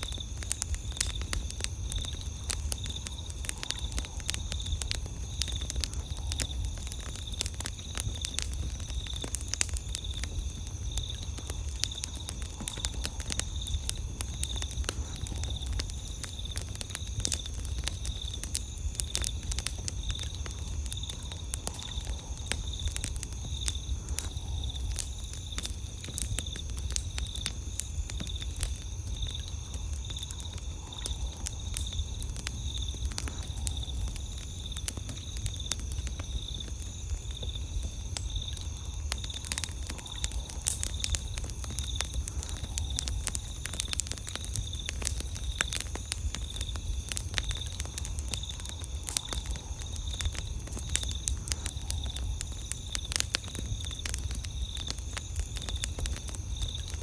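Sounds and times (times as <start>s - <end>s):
campfire crackling and popping: 0.0s - 57.0s
insects trilling: 0.0s - 57.0s.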